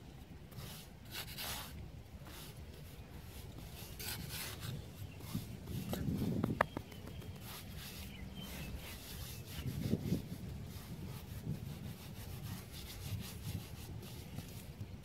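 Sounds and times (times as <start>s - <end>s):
faint rubbing and scraping: 0.4s - 15.0s.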